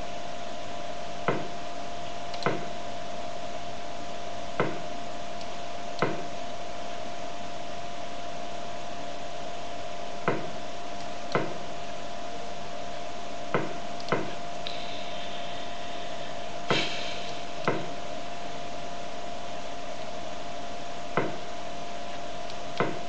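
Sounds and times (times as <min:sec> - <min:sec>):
high whine with hiss: 0:00.0 - 0:23.0.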